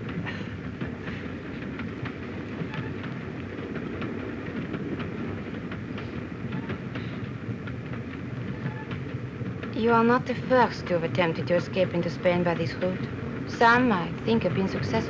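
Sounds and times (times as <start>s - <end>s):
train rumbling from inside carriage: 0.0s - 15.0s
wheels clicking over rail joints: 0.0s - 15.0s.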